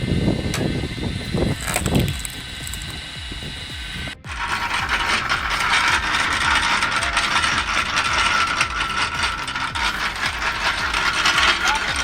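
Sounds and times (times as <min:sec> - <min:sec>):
low repeating pulse: 0:00.0 - 0:12.0
steady ringing tone: 0:00.0 - 0:12.0
wood splitter metallic clatter: 0:00.5 - 0:12.0.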